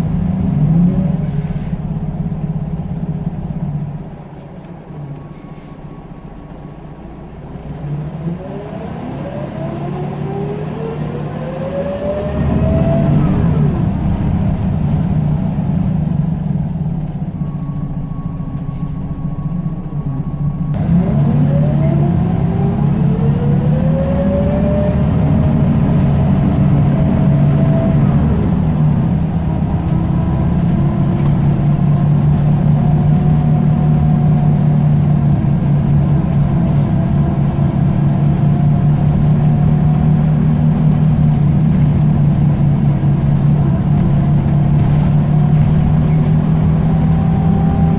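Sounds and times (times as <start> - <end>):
bus engine pulling away: 0.0 - 47.9.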